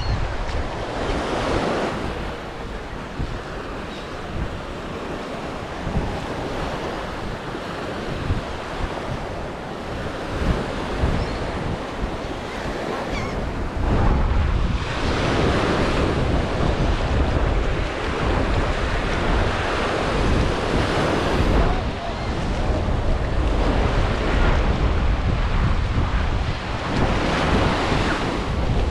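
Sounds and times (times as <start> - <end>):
surf washing onto beach: 0.0 - 28.9
wind buffeting microphone: 0.0 - 28.9.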